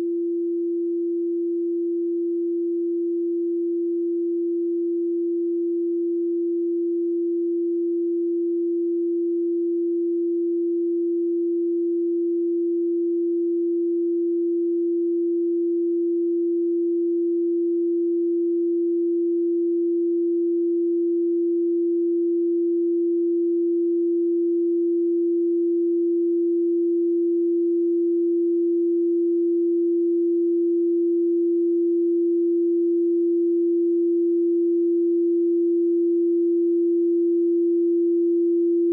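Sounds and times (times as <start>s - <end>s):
steady sine tone: 0.0s - 38.9s.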